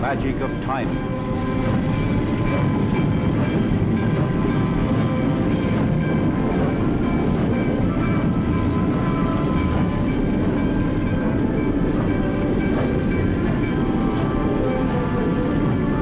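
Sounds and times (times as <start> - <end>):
train rolling rumble: 0.0 - 16.0.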